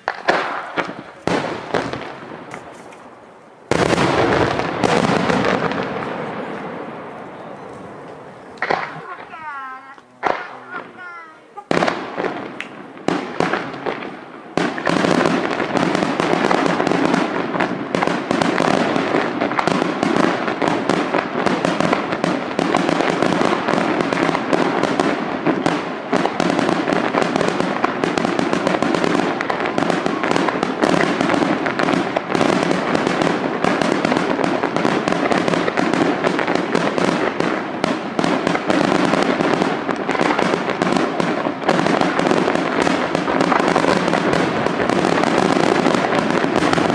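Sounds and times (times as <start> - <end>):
fireworks bangs and crackles: 0.0 - 46.9.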